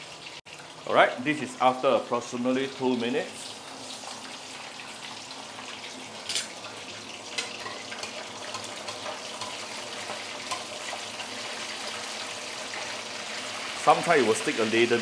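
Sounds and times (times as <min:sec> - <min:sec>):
fish deep-frying sizzle: 0:00.0 - 0:15.0.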